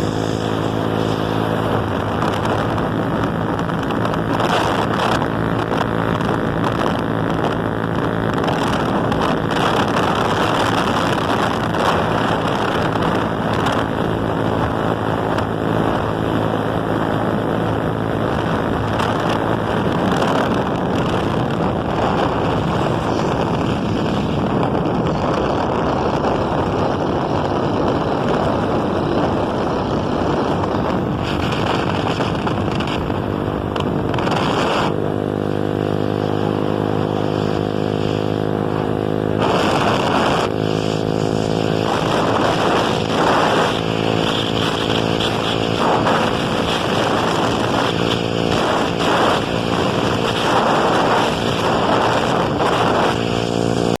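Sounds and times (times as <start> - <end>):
boat engine humming: 0.0 - 54.0
wind: 0.0 - 54.0.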